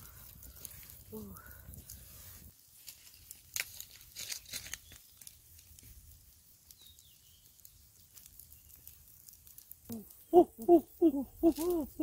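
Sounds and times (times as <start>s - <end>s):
charcoal embers crackling: 0.0s - 12.0s.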